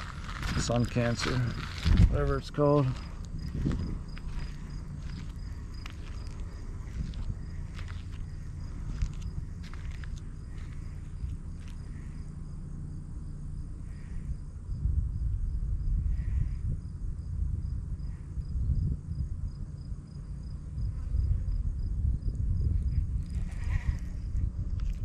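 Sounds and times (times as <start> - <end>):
insects chirping: 0.0 - 25.0
low rumble on microphone: 0.0 - 25.0
soft repeating insect call: 0.0 - 25.0.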